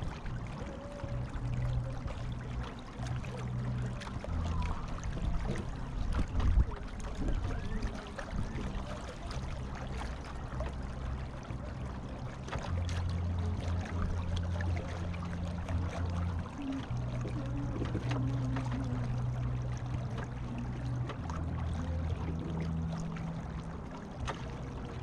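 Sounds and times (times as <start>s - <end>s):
steady low hum: 0.0s - 25.0s
water sloshing along hull: 0.0s - 25.0s.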